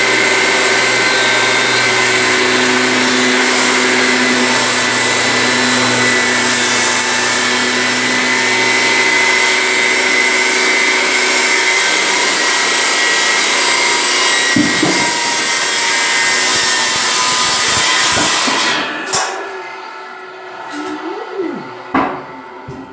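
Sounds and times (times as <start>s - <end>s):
circular saw cutting wood: 0.0s - 19.3s.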